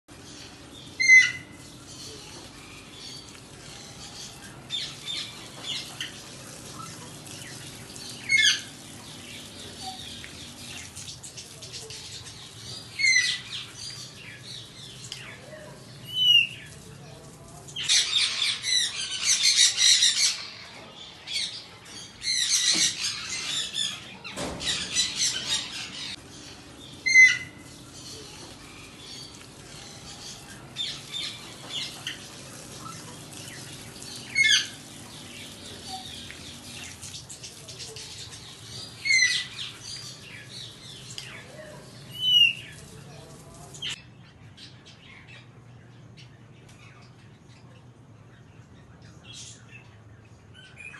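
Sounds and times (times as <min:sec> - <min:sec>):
parrots chattering and chirping: 0:00.2 - 0:16.8, 0:17.7 - 0:44.0.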